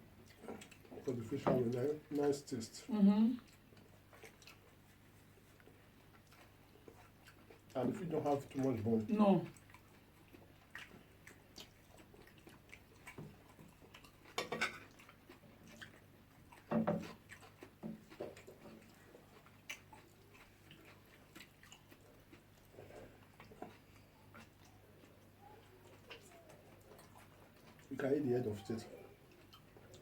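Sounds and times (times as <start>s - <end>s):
people chewing food: 0.0s - 30.0s.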